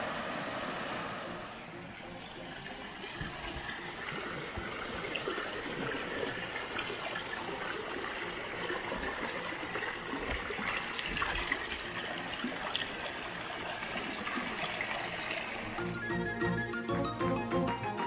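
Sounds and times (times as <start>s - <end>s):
creek water rushing over rocks: 0.0s - 15.9s.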